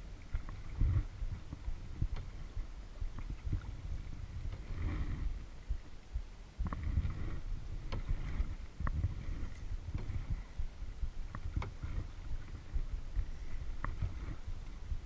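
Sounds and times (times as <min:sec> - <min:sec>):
paddle splashing in water: 0:00.0 - 0:05.9, 0:06.6 - 0:15.0
steady low rumble: 0:00.0 - 0:15.0.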